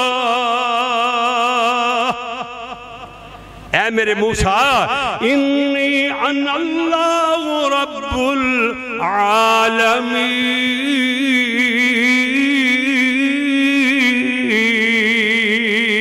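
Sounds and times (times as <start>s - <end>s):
man chanting recitation: 0.0s - 3.1s, 3.7s - 16.0s.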